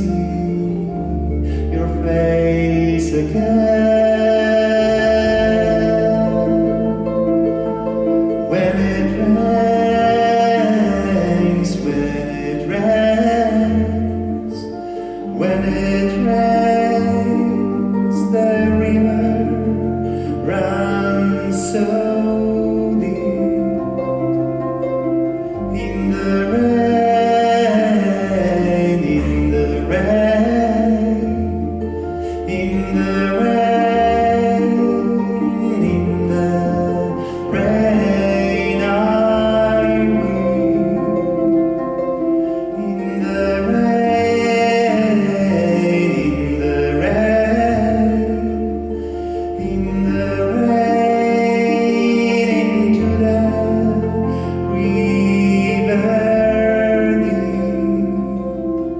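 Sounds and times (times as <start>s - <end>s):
double bass low notes: 0.0s - 58.9s
man singing: 0.0s - 58.9s
plucked harp: 0.0s - 58.9s.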